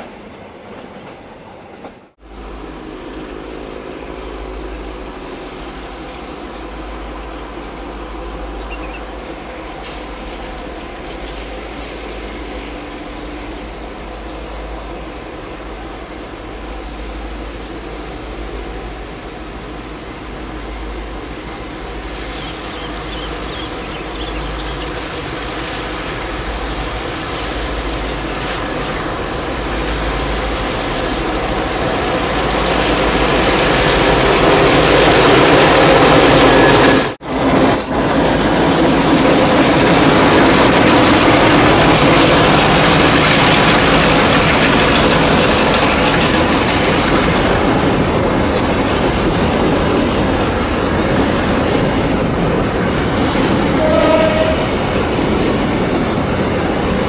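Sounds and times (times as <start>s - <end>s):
diesel locomotives running: 0.0s - 57.0s.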